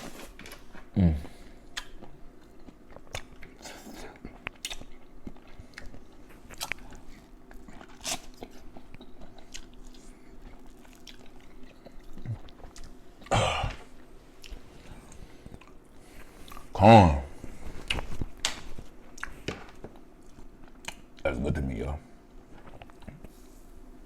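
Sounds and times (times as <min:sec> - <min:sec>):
person chewing food: 0:00.5 - 0:16.8, 0:17.4 - 0:21.2, 0:22.3 - 0:23.9.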